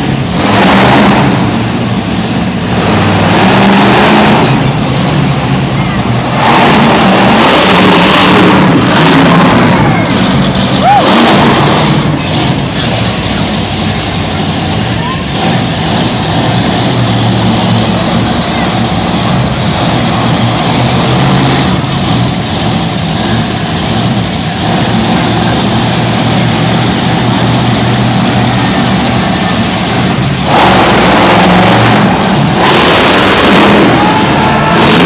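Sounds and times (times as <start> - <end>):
rush of broad noise: 0.0 - 35.0
truck engine under throttle: 0.0 - 35.0.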